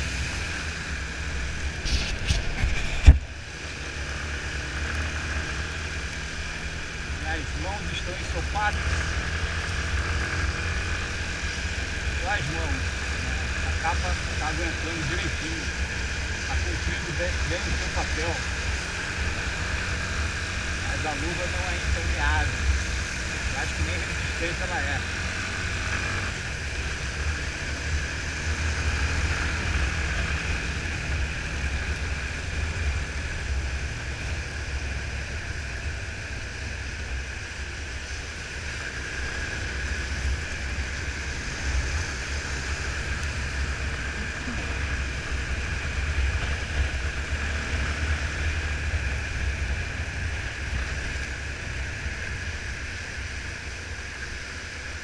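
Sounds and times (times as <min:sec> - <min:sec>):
muffled motorcycle rumble: 0:00.0 - 0:55.0.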